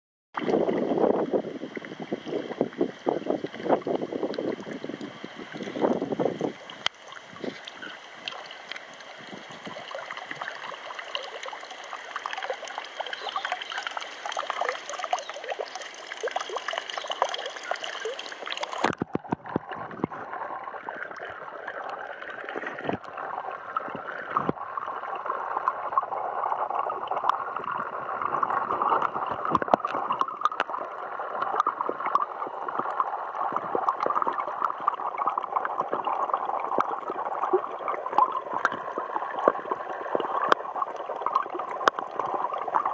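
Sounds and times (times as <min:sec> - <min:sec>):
muffled underwater gurgling: 0:00.4 - 0:42.9
water trickling into a tank: 0:00.4 - 0:42.9.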